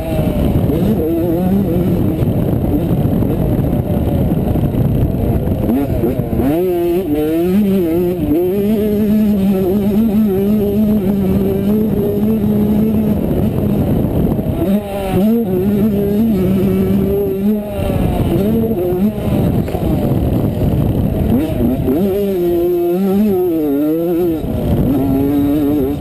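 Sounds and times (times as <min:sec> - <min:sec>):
motorcycle engine revving hard: 0:00.0 - 0:26.0
wind rumble: 0:00.0 - 0:26.0.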